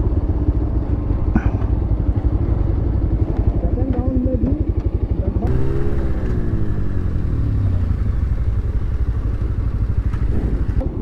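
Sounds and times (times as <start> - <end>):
motorcycle engine at speed: 0.0 - 11.0.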